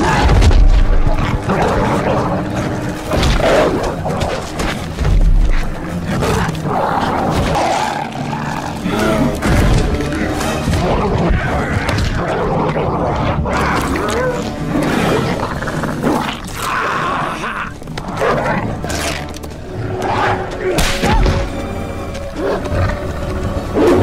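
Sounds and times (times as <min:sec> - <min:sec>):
animal roars and snarls: 0:00.0 - 0:21.4
action film music score: 0:00.0 - 0:24.0.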